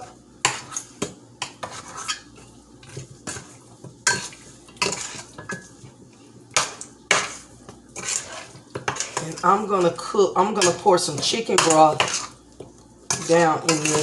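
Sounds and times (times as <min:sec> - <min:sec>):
utensil scraping metal pot: 0:00.0 - 0:05.8, 0:06.6 - 0:12.4, 0:13.0 - 0:14.0.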